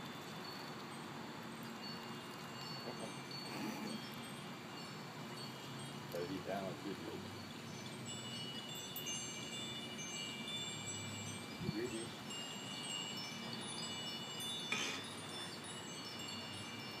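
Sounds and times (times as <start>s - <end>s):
chimes ringing: 1.6s - 17.0s.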